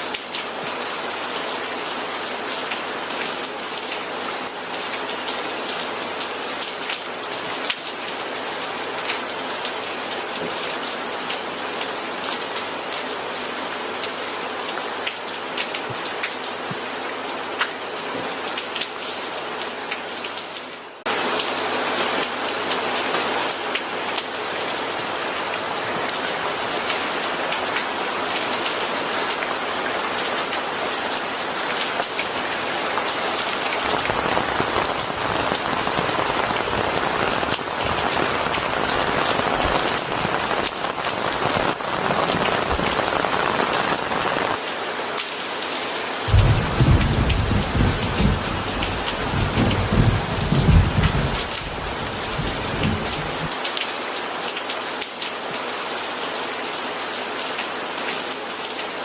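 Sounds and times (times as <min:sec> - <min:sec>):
rain on a surface: 0:00.0 - 0:59.0.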